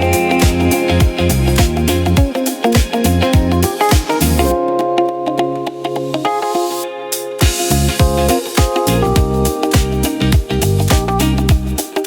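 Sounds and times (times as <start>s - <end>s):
electronic music with keyboard chords: 0.0s - 12.0s.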